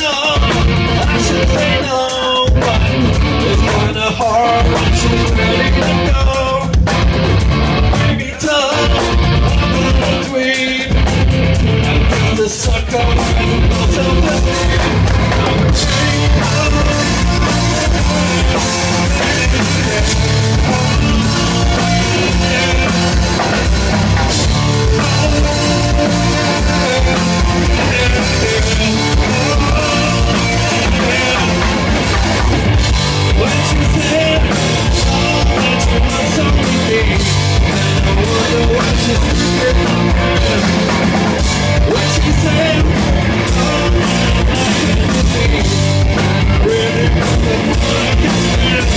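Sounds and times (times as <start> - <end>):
live rock band playing loud: 0.0 - 48.9.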